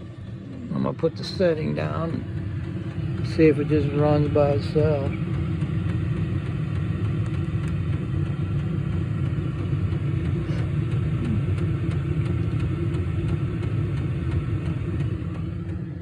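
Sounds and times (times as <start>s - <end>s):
diesel air heater humming: 0.0s - 16.0s.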